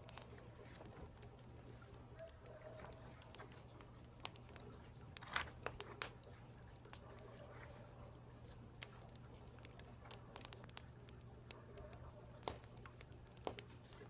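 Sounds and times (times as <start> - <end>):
faint low hum: 0.0 - 14.0
wood fire crackling: 0.0 - 14.0.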